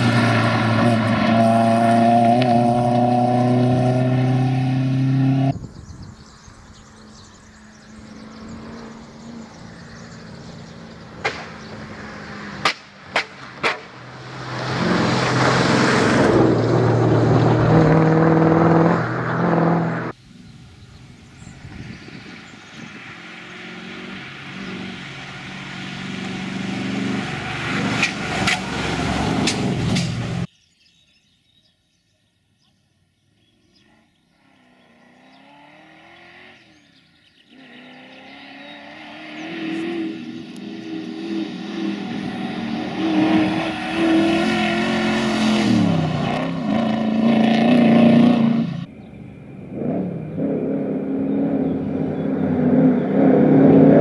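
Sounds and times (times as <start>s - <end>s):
rally car engine revving: 0.0s - 5.6s, 7.8s - 20.2s, 22.2s - 30.5s, 34.6s - 49.0s, 49.6s - 54.0s.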